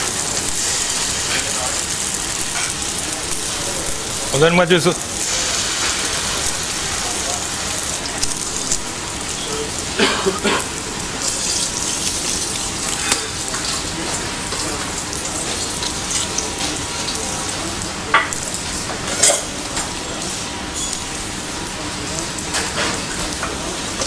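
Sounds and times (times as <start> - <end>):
batter sizzling in a pan: 0.0 - 24.0.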